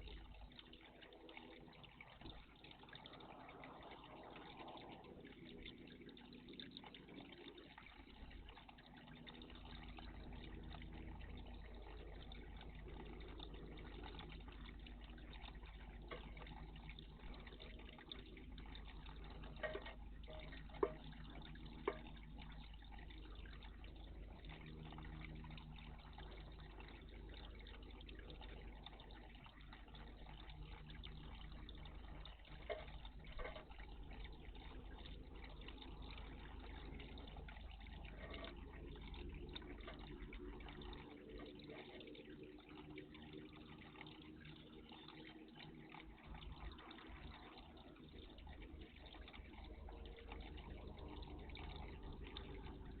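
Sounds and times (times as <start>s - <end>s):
water trickling in bird bath: 0.0s - 53.0s.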